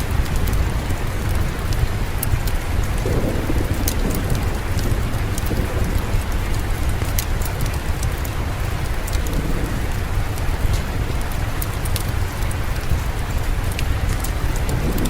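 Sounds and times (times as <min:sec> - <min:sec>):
deep even rumble: 0:00.0 - 0:15.0
steady rain: 0:00.0 - 0:15.0
wood fire crackling: 0:00.0 - 0:15.0.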